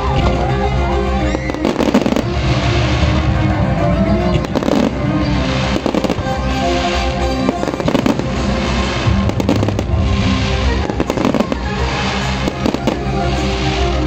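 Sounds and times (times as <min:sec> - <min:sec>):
music playing: 0:00.0 - 0:14.0
fireworks bangs and crackles: 0:01.2 - 0:14.0.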